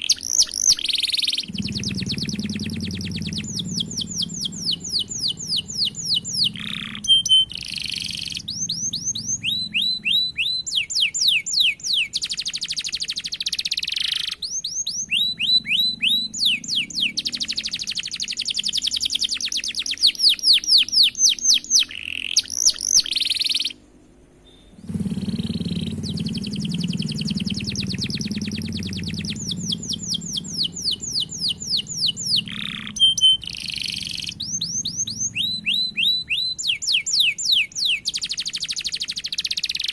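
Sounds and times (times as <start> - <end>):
canary singing: 0.0 - 39.9
low background hum: 0.0 - 39.9.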